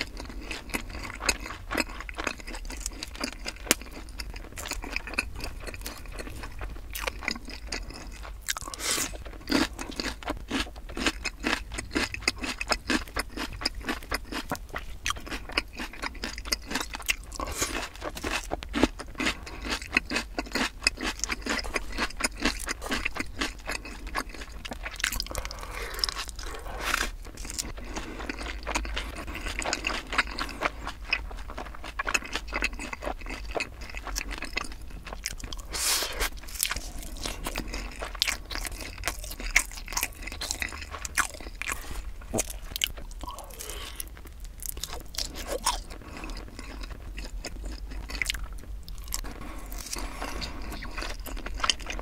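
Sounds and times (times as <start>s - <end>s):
chewing and biting fried chicken: 0.0s - 52.0s.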